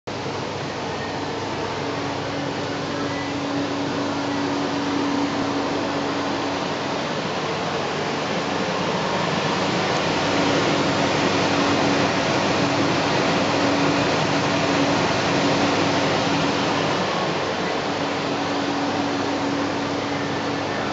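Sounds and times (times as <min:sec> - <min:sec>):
dishwasher running: 0:00.1 - 0:20.9.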